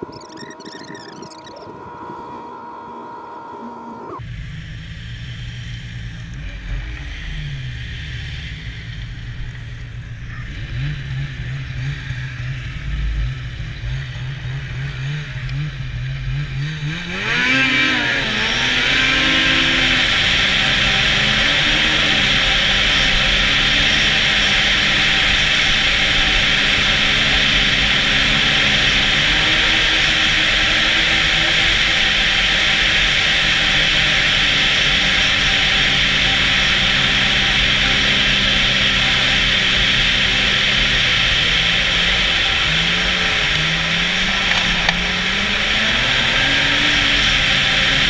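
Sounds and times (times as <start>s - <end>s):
snowmobile engine revving: 0.0s - 48.0s.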